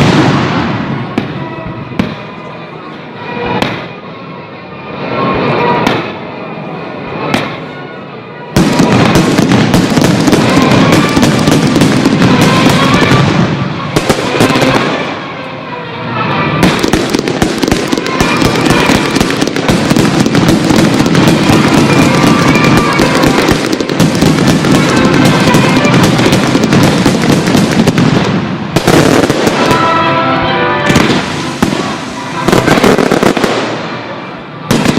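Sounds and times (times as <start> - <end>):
fireworks bursting and crackling: 0.0 - 34.9
music: 0.3 - 28.1, 28.8 - 34.9.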